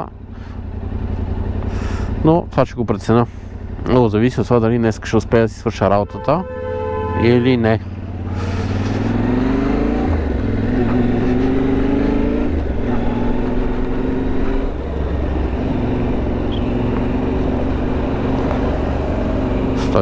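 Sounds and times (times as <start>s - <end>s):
motorcycle engine accelerating: 0.0s - 5.6s, 7.8s - 20.0s.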